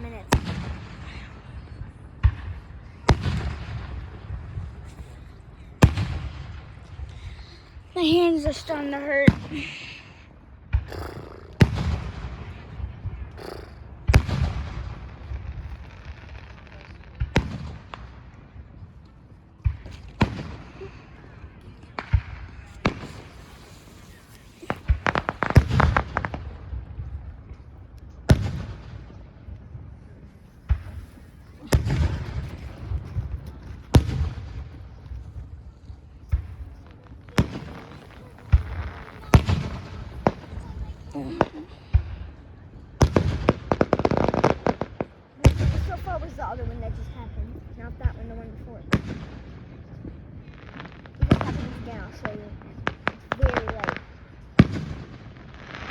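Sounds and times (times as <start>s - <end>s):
fireworks bangs with rumble: 0.0s - 9.7s, 10.6s - 18.8s, 19.6s - 21.0s, 21.7s - 47.0s, 47.6s - 55.9s.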